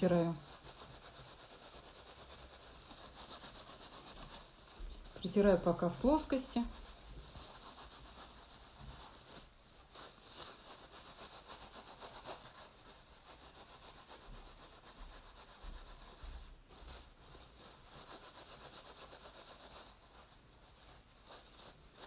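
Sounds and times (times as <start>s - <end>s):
hands rubbing wet wool: 0.0s - 22.0s.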